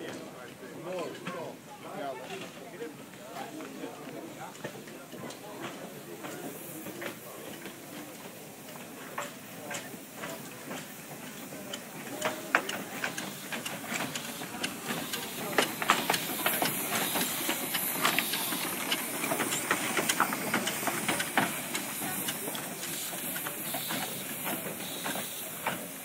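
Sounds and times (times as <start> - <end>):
locomotive running gear clanking: 0.0 - 26.0
steam hissing: 2.4 - 26.0.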